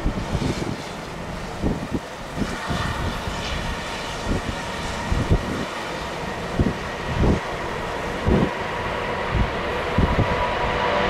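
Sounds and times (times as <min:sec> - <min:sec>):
jet engine roar and hiss: 0:00.0 - 0:11.0
wind gusting on microphone: 0:00.0 - 0:11.0.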